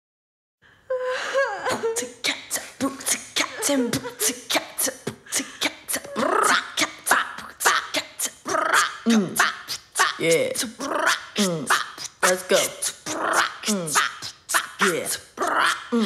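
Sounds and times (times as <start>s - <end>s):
person beatboxing: 1.7s - 16.0s.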